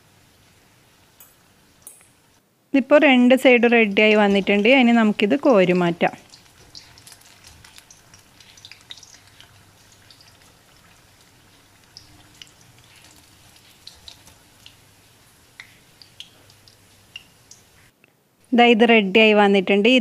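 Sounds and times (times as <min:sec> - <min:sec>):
hot oil crackling and popping: 0:00.1 - 0:02.3, 0:03.4 - 0:17.9.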